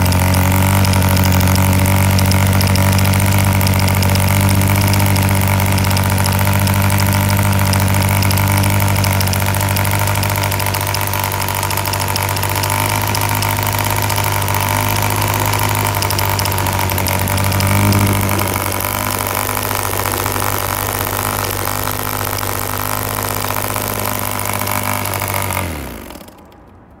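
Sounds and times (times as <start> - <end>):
small diesel engine buzzing: 0.0 - 26.7.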